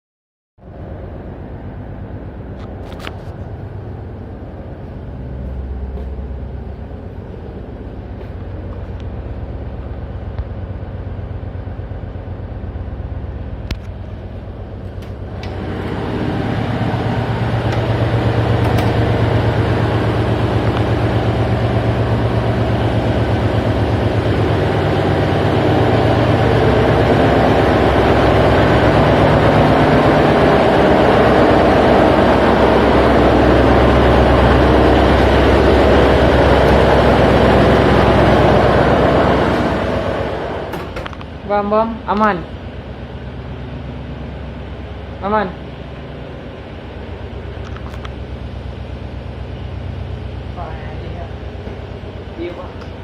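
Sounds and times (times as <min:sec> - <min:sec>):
ship diesel engine running: 0:00.6 - 0:53.0.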